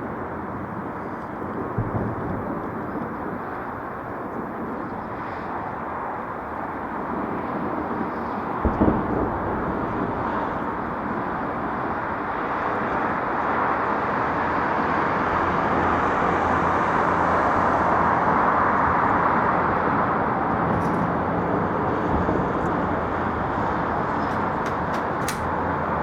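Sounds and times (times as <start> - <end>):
traffic-like background noise: 5.1 - 26.0.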